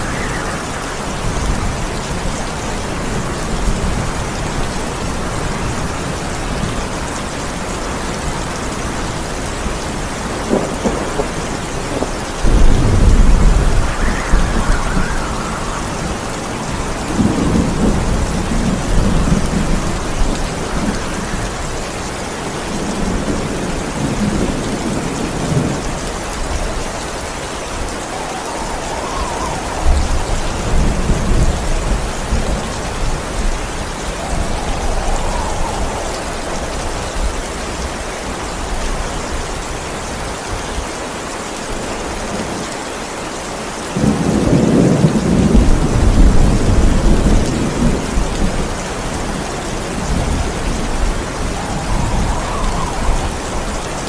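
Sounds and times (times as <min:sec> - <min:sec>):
thunder rumbling: 0:00.0 - 0:40.1, 0:44.0 - 0:54.0
heavy rain falling: 0:00.0 - 0:54.0.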